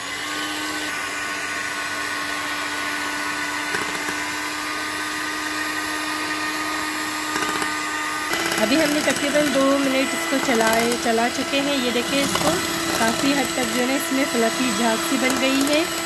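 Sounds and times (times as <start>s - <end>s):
electric hand mixer whisking: 0.0s - 16.0s.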